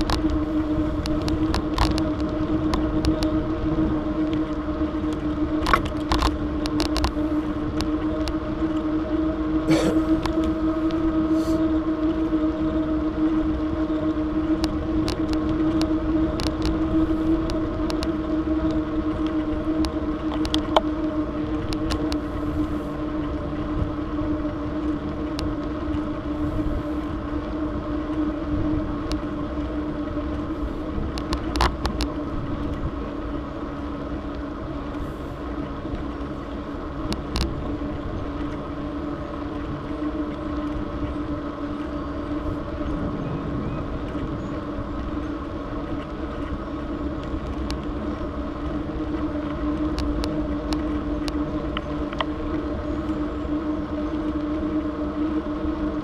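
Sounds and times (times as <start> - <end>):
bike clicks: 0.0 - 3.4, 4.2 - 12.3, 14.4 - 56.0
bicycle tyre hum on asphalt: 0.0 - 56.0
wind rumble on microphone: 0.0 - 56.0.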